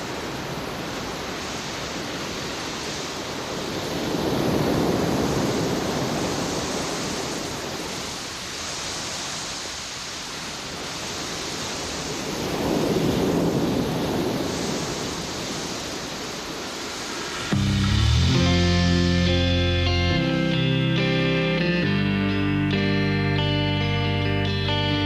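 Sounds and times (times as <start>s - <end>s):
surf washing onto beach: 0.0s - 21.7s
wind: 0.0s - 25.0s.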